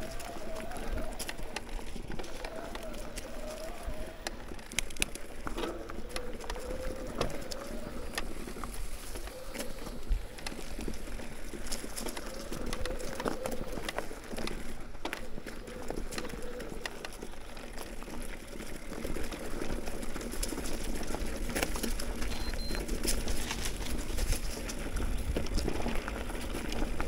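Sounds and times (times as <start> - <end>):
bike rattling over bumps: 0.0 - 27.0
wind rumbling on microphone: 0.0 - 27.0.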